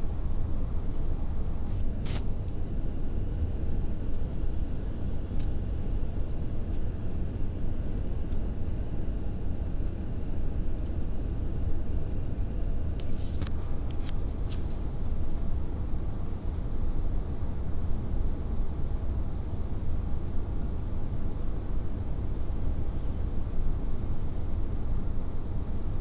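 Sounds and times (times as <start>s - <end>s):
aircraft engines rumbling: 0.0s - 26.0s.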